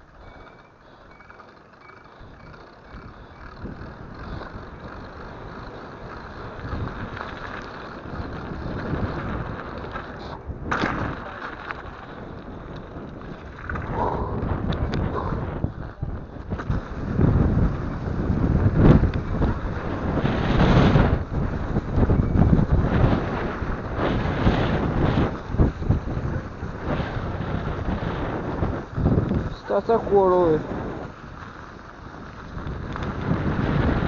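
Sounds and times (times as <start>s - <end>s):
bike rattling: 0.0s - 34.0s
wind on microphone: 2.2s - 34.0s.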